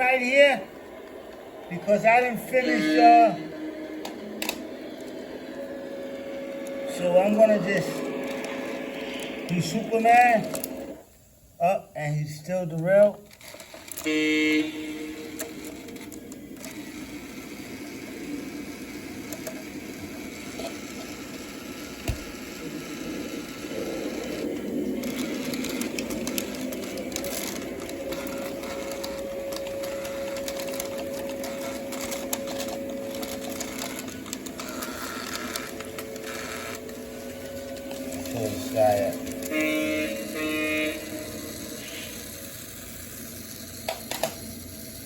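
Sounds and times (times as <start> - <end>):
model train motor hum: 0.0 - 11.3, 12.7 - 45.0
steady tone: 0.0 - 11.3, 14.1 - 43.3.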